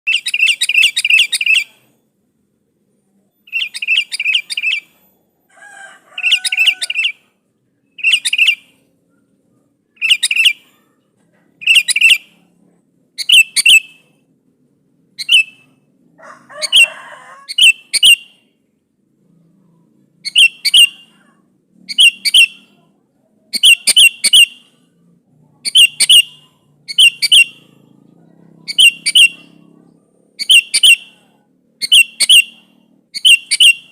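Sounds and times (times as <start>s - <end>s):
bulbul calling: 0.1s - 2.0s, 3.4s - 5.0s, 6.2s - 12.6s, 13.2s - 14.2s, 15.1s - 15.9s, 16.5s - 18.6s, 19.3s - 33.9s.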